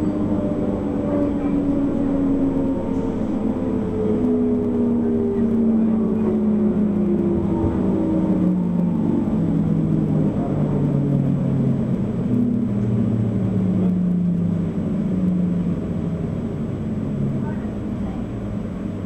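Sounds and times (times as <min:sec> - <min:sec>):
low train motor tones: 0:00.0 - 0:19.0
train wheels rumbling on rails: 0:00.0 - 0:19.0.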